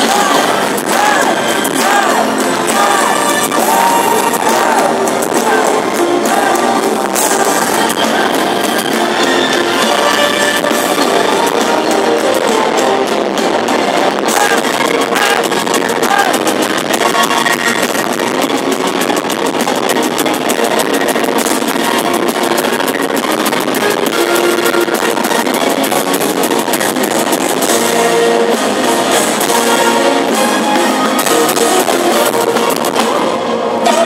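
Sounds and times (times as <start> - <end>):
metal band playing live: 0.0 - 34.0.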